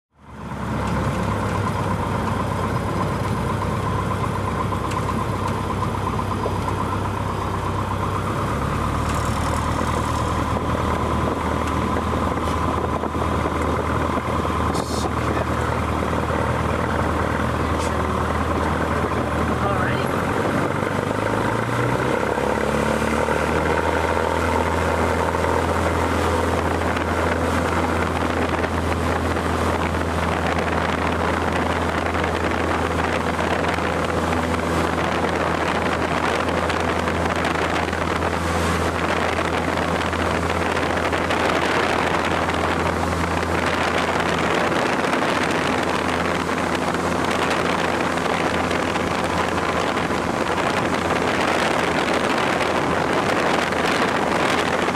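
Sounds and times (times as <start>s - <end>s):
propeller plane engine droning: 0.1s - 54.9s.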